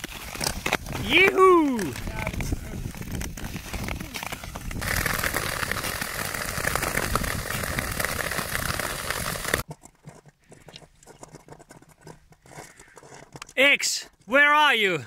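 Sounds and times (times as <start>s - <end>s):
skate blades scraping ice: 0.0s - 14.1s.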